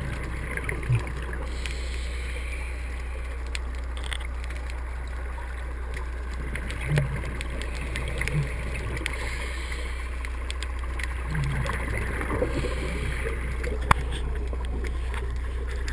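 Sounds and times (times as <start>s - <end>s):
muffled underwater hum and hiss: 0.0s - 15.9s.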